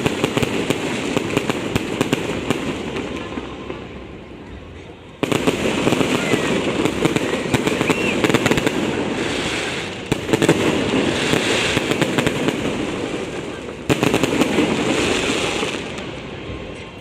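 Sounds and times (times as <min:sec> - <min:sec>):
sharp firework cracks: 0:00.0 - 0:03.8, 0:05.2 - 0:16.2
fireworks crackling: 0:00.0 - 0:17.0.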